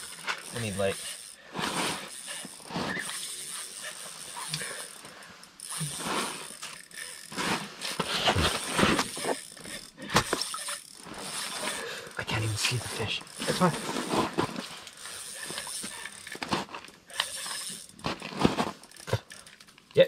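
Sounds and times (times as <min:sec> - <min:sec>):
fishing reel ratcheting: 0:00.0 - 0:14.0, 0:14.6 - 0:19.9.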